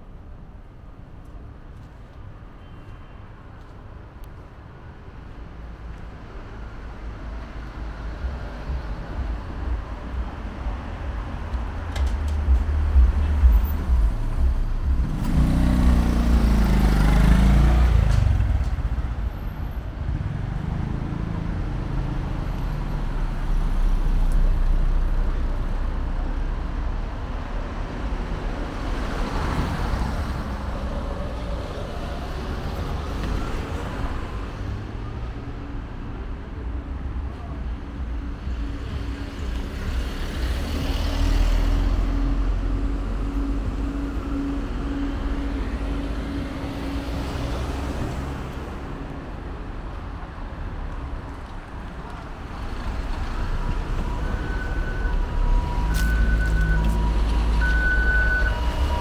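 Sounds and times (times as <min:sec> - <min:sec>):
cars driving past: 0:05.4 - 0:59.0.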